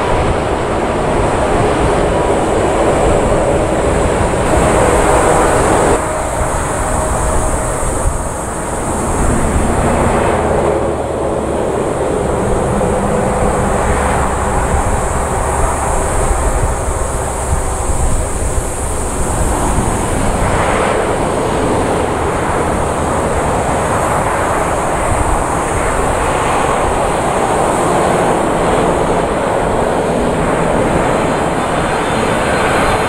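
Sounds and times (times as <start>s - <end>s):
jet engine rumble: 0.0s - 33.0s
jet on final approach: 0.0s - 33.0s.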